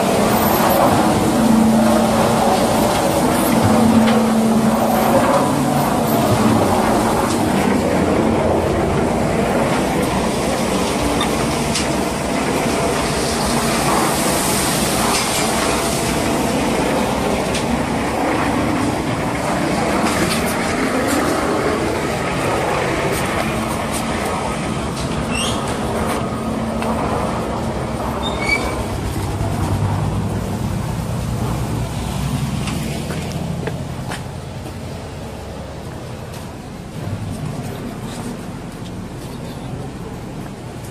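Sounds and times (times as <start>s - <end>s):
concrete mixer pump running: 0.0s - 40.9s.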